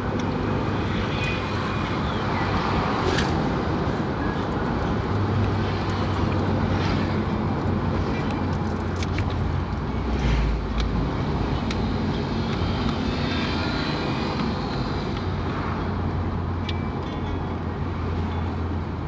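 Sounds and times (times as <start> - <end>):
vehicle engine hum and road noise: 0.0 - 19.0.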